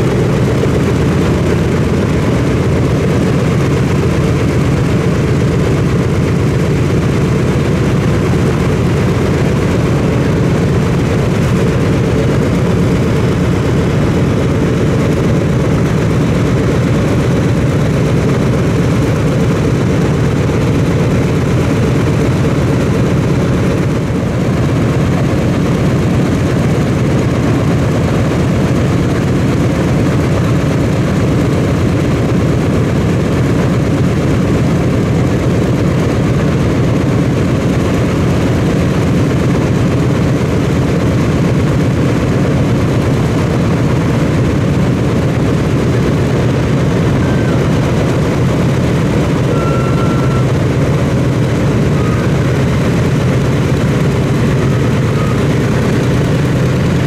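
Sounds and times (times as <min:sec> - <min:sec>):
radial engines droning: 0:00.0 - 0:57.0.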